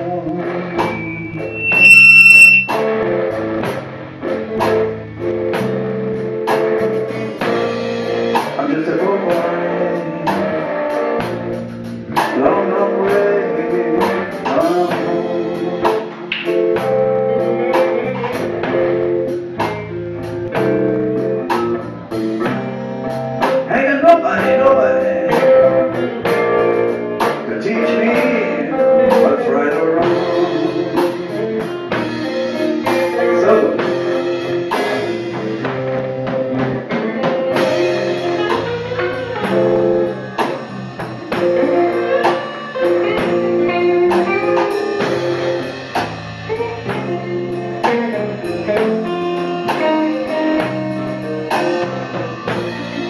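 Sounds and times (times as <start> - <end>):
drum kit: 0.0 - 53.0
electric bass: 0.0 - 53.0
electric guitars: 0.0 - 53.0.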